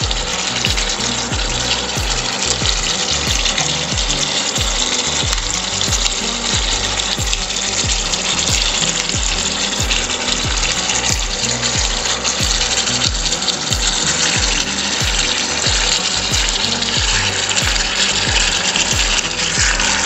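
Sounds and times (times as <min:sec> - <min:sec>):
curry sizzling in a pan: 0:00.0 - 0:20.0
music with thudding bass beat: 0:00.0 - 0:20.0.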